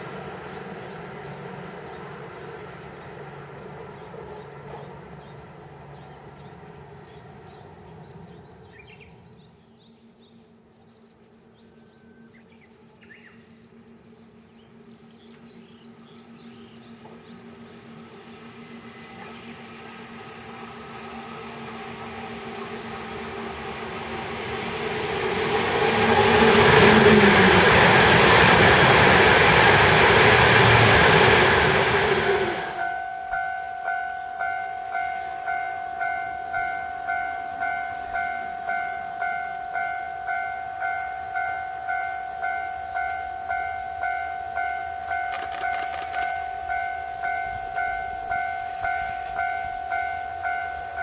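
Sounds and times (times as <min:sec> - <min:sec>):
train passing: 0:00.0 - 0:51.0.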